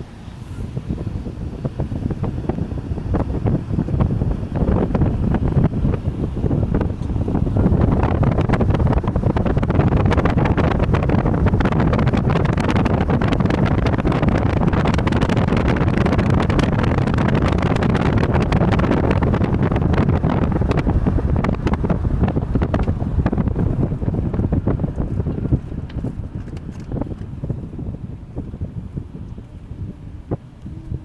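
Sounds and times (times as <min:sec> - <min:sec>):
road and engine noise: 0:00.0 - 0:31.0
wind buffeting microphone: 0:00.0 - 0:31.0.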